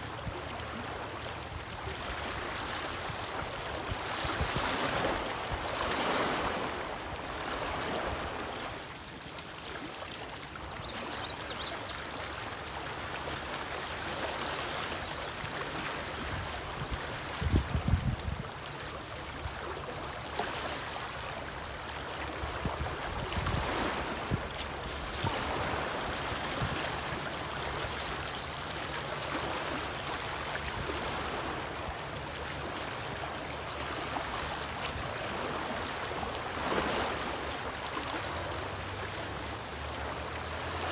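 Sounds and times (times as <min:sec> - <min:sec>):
waves lapping on rocky shore: 0:00.0 - 0:40.9.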